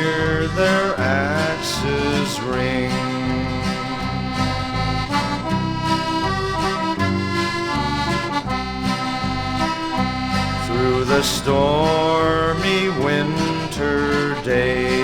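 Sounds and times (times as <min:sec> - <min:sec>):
accordion melody: 0:00.0 - 0:15.0
bass and rhythm accompaniment: 0:00.0 - 0:15.0.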